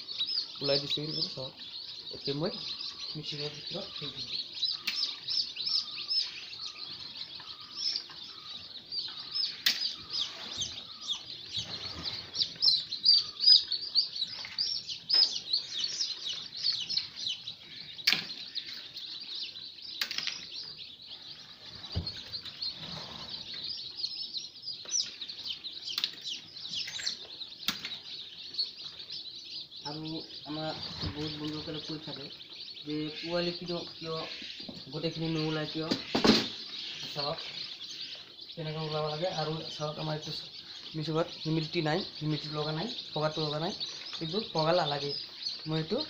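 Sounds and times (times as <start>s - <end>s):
chicks peeping: 0.0s - 46.0s.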